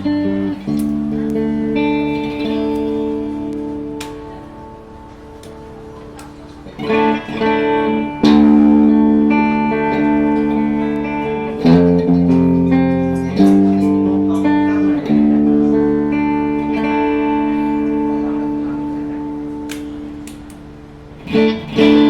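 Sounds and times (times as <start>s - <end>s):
electric guitar chords ringing: 0.0s - 22.0s.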